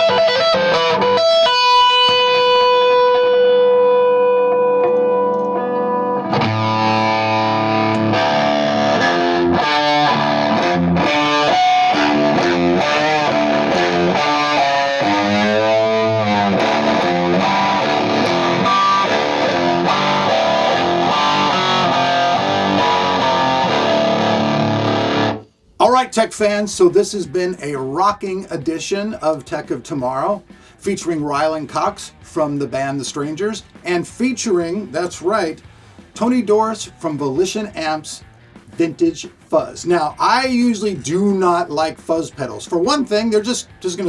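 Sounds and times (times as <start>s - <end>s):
fuzz electric guitar: 0.0s - 25.5s, 26.8s - 44.0s.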